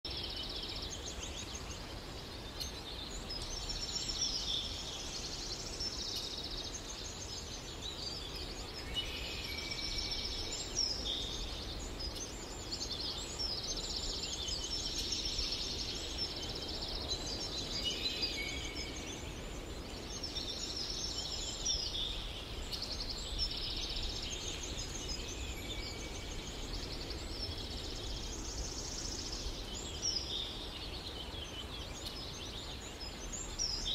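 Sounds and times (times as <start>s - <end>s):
birds chirping and trilling: 0.1s - 33.9s
low background noise: 0.1s - 33.9s.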